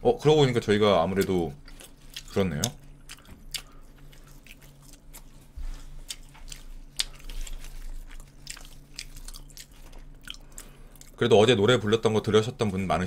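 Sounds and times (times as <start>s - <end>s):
low steady hum: 0.0s - 13.0s
chewing fries: 0.2s - 13.0s.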